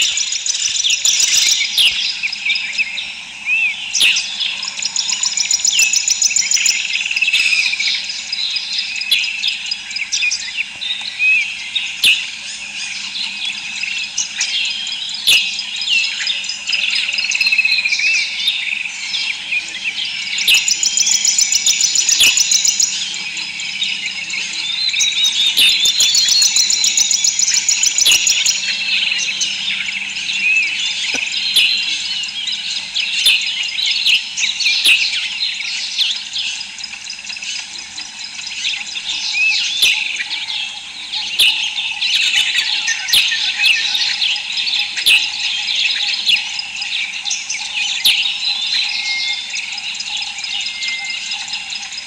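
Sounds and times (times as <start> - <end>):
many birds chirping and twittering: 0.0 - 52.0.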